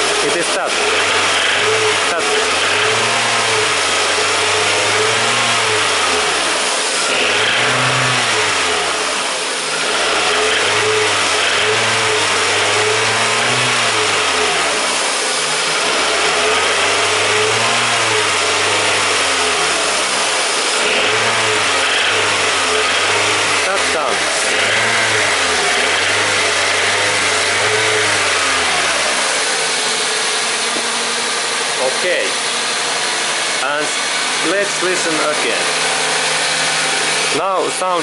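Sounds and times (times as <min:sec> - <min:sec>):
car engine revving: 0:00.0 - 0:38.0
engine knocking: 0:00.0 - 0:38.0.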